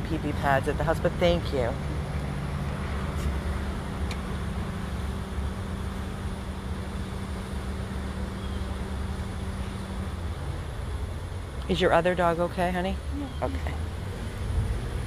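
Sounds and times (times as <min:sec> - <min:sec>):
constant low hum: 0:00.0 - 0:15.0
road traffic rumble: 0:00.0 - 0:15.0.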